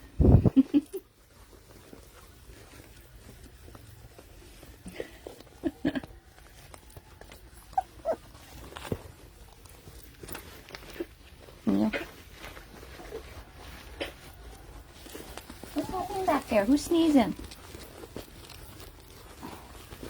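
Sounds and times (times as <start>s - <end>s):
puppies whimpering and squeaking: 0.8s - 20.0s.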